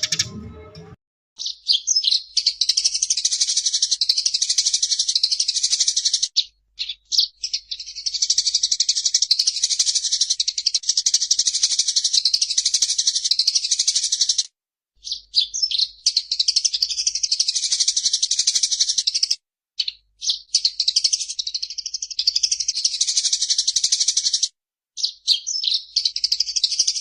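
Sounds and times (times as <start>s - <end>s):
sparrow chattering: 1.4s - 27.0s.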